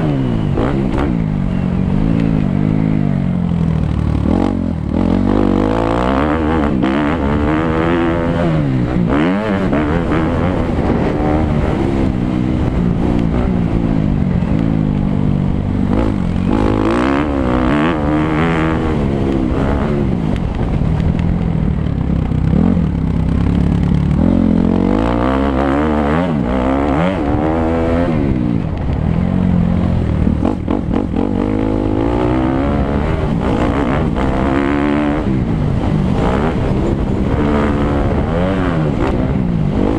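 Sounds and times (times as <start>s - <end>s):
motocross bike engine revving: 0.0s - 21.0s, 22.3s - 28.8s, 29.4s - 39.9s.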